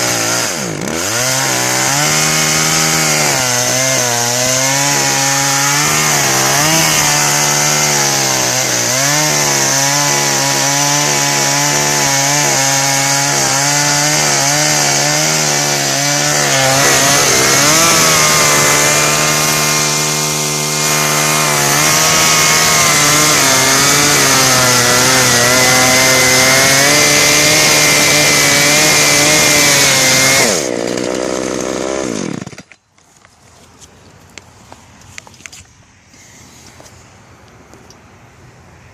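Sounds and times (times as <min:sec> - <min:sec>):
chainsaw cutting wood: 0:00.0 - 0:33.2.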